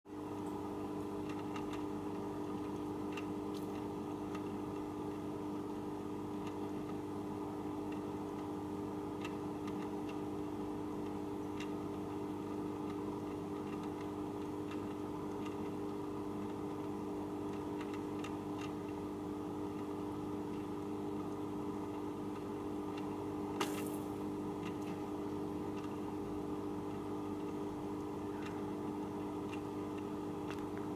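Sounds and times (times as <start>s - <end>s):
aquarium filter motor hum: 0.1s - 30.9s
faint irregular ticks: 0.3s - 30.9s.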